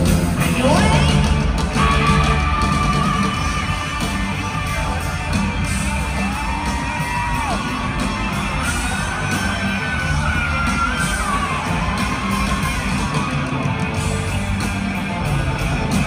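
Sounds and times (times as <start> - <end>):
live hard rock band: 0.0 - 16.0
crowd yelling and whooping: 0.5 - 16.0.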